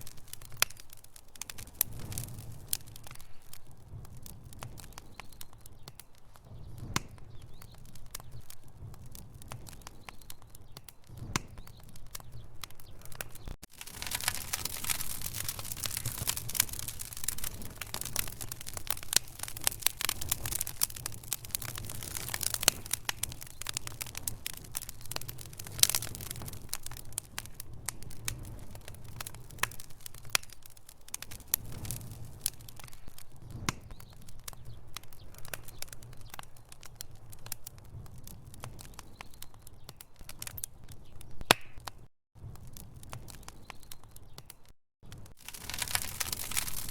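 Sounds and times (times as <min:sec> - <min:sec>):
fire crackling and popping: 0:00.0 - 0:46.9
low rumble of burning: 0:00.0 - 0:46.9.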